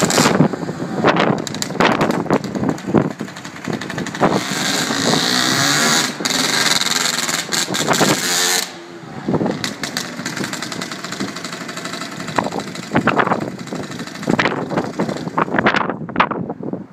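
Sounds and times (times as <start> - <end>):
two-stroke engine revving: 0.0 - 0.6, 1.4 - 15.6.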